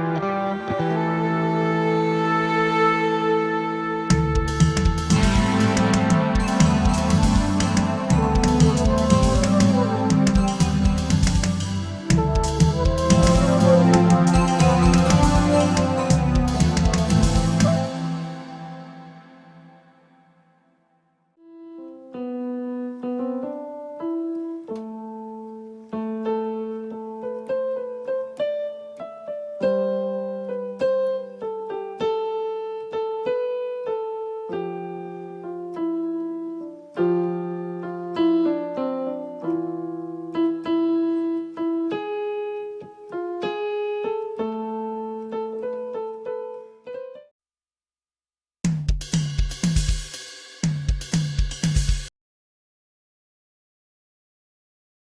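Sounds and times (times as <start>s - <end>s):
solo piano melody with chords: 0.0s - 19.8s, 21.8s - 47.3s.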